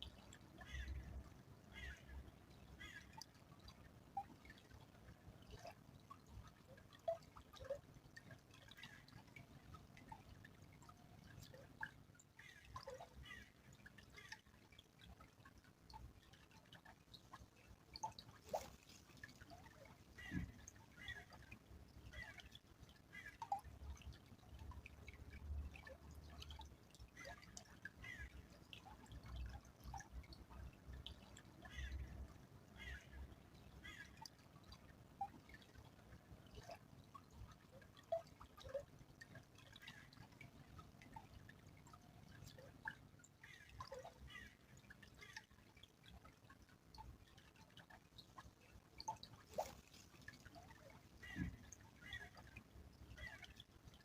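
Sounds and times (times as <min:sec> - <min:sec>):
stream trickling and dripping: 0:00.0 - 0:54.0.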